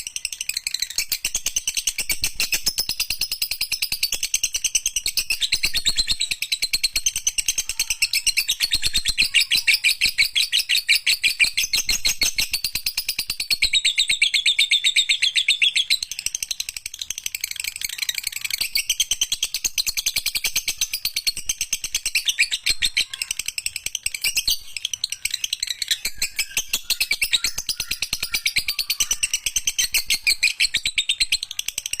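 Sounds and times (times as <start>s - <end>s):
lovebird high-pitched trill: 0.0s - 32.0s.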